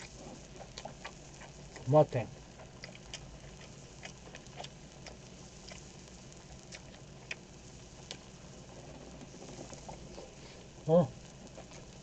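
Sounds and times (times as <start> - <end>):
pork fat popping on grill pan: 0.0 - 10.1
steady low hum: 0.0 - 12.0.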